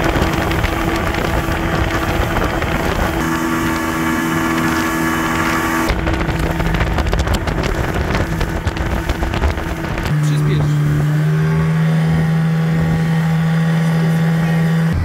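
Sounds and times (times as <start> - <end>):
wind rumble on microphone: 0.0 - 14.1
motorboat engine: 0.0 - 15.0
wind and water rushing: 0.0 - 15.0.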